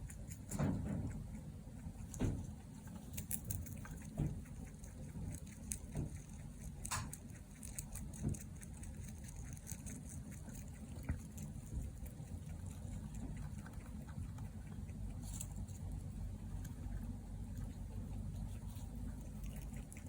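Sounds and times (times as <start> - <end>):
rabbit snoring softly: 0.0 - 20.0.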